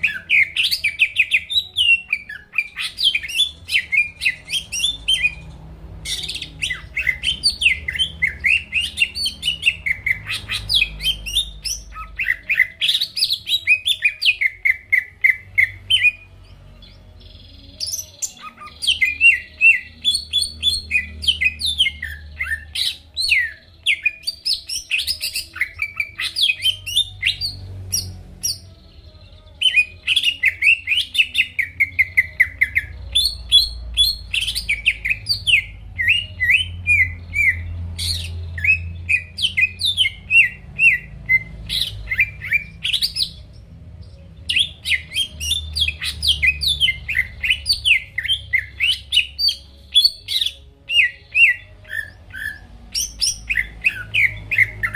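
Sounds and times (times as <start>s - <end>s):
bird singing whistles and chirps: 0.0s - 5.4s, 6.0s - 54.9s.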